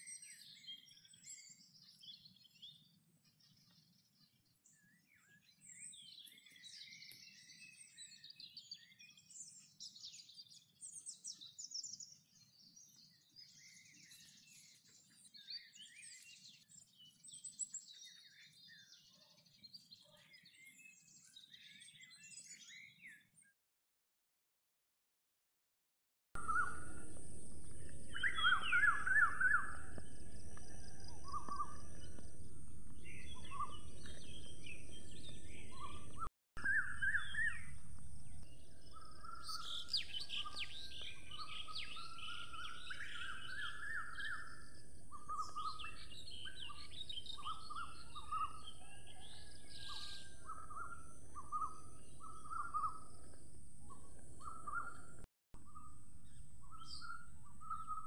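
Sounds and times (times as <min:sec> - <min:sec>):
small birds chirping: 0:00.0 - 0:23.5, 0:26.4 - 0:58.0.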